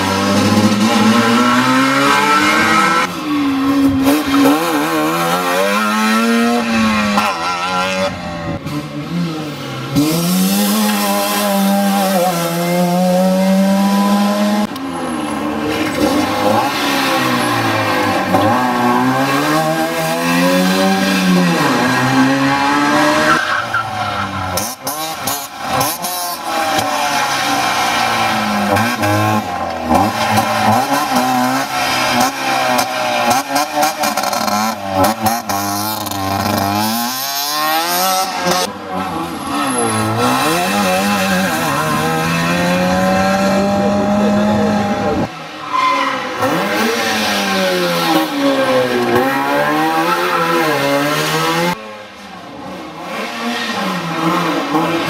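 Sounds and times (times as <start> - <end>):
rally cars racing past revving: 0.0 - 55.0.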